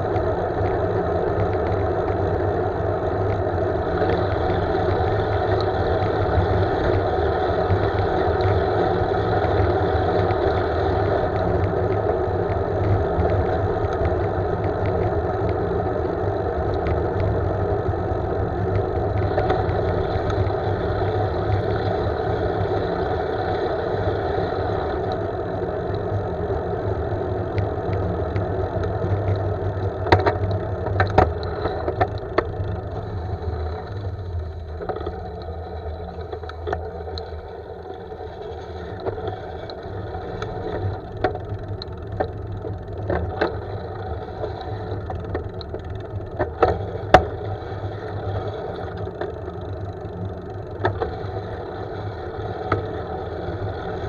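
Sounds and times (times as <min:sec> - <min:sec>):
bike clicks and knocks over bumps: 0:00.0 - 0:54.0
tyres rolling on rough asphalt: 0:00.0 - 0:54.0.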